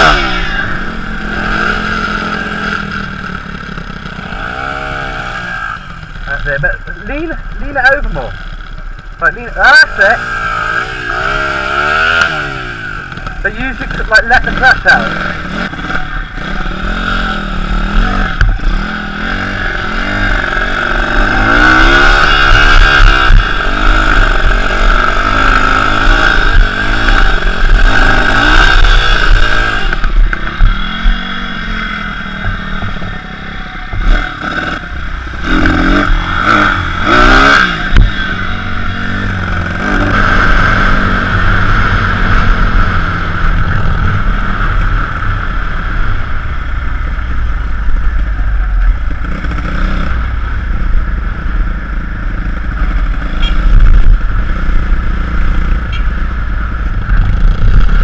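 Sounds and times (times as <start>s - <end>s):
pit bike engine revving: 0.0s - 58.0s.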